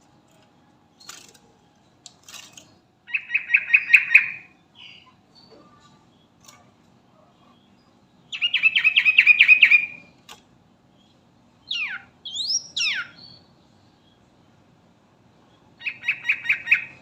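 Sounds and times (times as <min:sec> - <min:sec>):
bird chattering song: 0:00.9 - 0:10.2, 0:10.9 - 0:14.6, 0:15.4 - 0:17.0.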